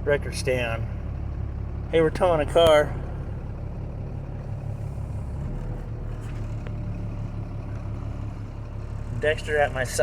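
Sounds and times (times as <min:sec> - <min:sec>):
truck engine and road drone: 0:00.0 - 0:10.0.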